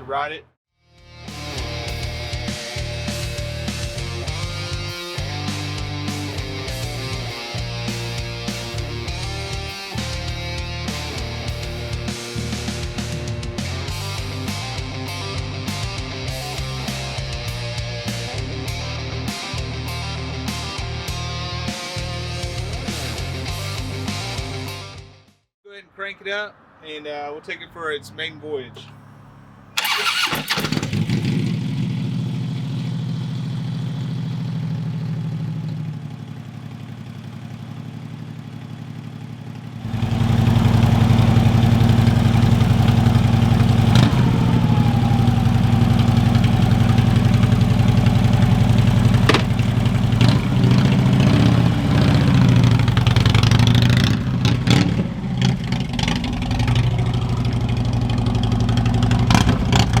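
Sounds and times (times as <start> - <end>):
motorcycle engine idling and revving: 1.2 - 24.9, 27.8 - 60.0.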